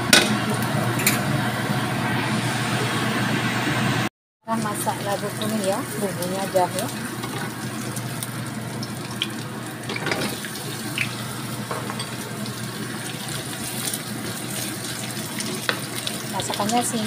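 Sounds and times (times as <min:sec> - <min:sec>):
ginger sizzling in hot oil: 0:00.0 - 0:17.0.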